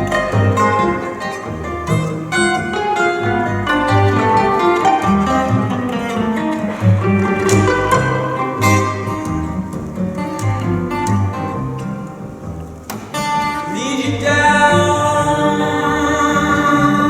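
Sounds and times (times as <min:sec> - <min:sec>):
plucked double bass: 0:00.0 - 0:17.0
quick guitar lines: 0:00.0 - 0:17.0
violin: 0:00.0 - 0:17.0.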